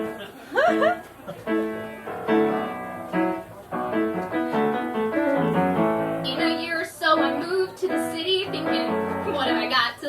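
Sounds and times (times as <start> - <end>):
piano playing chords: 0.0 - 9.9.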